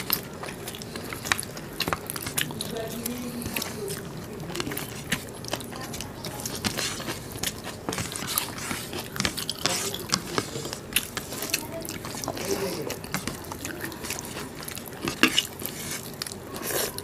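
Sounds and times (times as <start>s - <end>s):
chewing and lip-smacking: 0.0s - 17.0s
fingers squishing rice: 0.0s - 17.0s.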